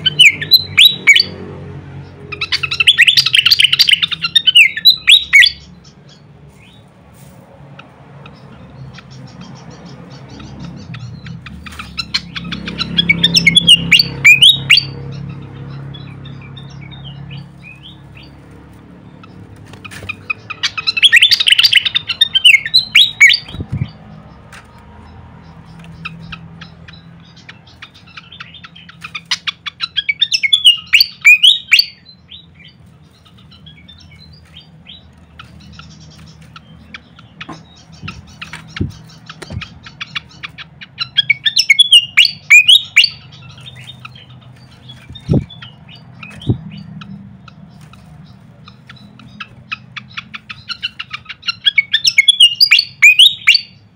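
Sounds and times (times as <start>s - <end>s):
bird chirps: 0.0s - 6.9s, 7.8s - 53.9s
bird twittering song: 0.0s - 6.9s, 7.8s - 53.9s.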